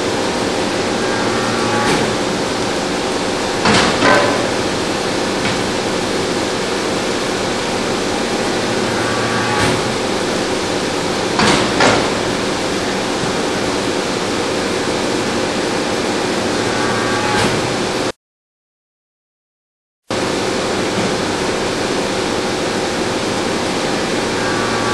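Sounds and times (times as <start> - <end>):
hydraulic press droning: 0.0 - 18.1, 20.2 - 24.9.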